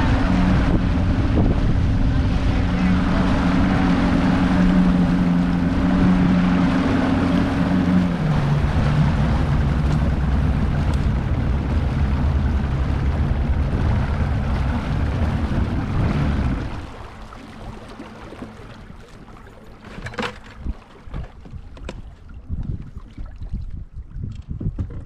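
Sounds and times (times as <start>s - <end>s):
outboard motor running: 0.0s - 23.2s
wind and water hiss: 0.0s - 24.0s.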